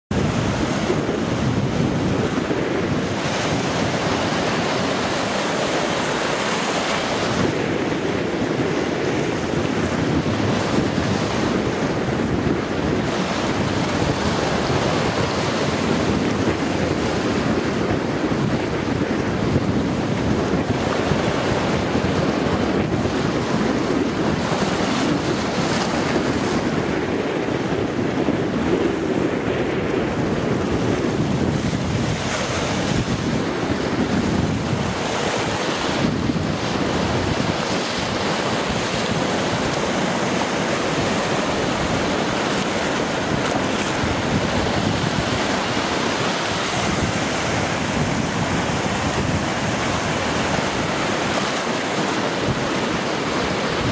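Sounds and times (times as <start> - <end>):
sea waves splashing: 0.1 - 53.9
wind buffeting microphone: 0.1 - 53.9.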